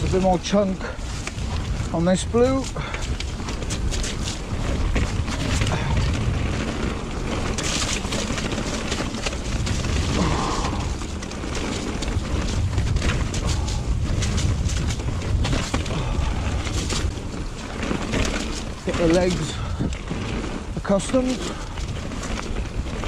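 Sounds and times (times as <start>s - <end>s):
bike wheels knocking on rocks: 0.0s - 23.0s
wind rumble on microphone: 0.0s - 23.0s.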